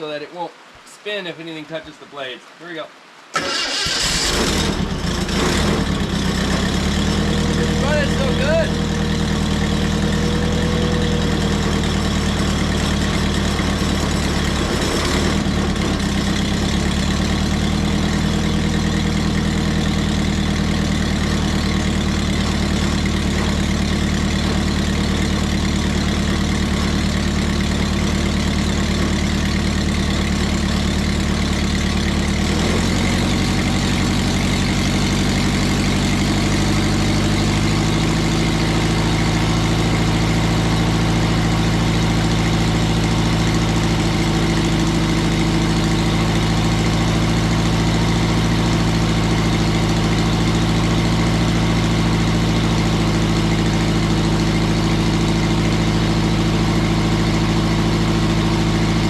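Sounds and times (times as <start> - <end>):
sawmill engine running: 3.4 - 59.0.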